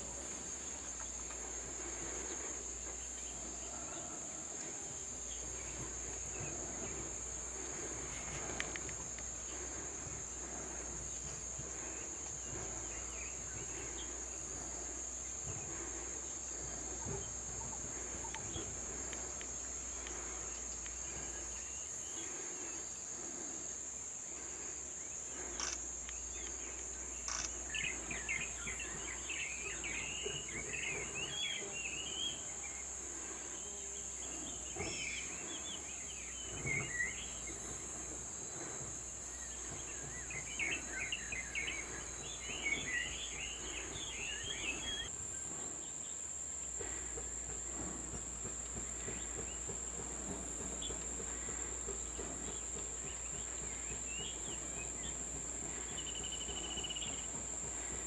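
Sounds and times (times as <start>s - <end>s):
small birds twittering: 0.0s - 46.2s, 46.8s - 58.0s
high-pitched insect drone: 0.0s - 58.0s.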